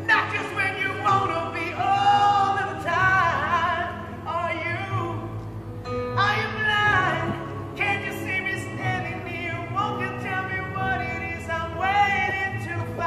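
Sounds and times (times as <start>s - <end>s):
man singing with vibrato: 0.0s - 5.4s, 6.1s - 13.0s.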